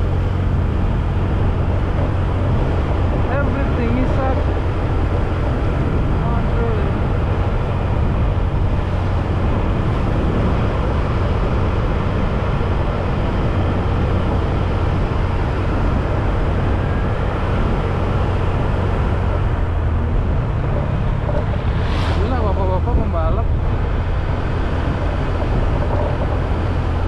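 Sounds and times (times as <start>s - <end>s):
motorcycle engine drone: 0.0s - 27.0s
wind and road noise: 0.0s - 27.0s.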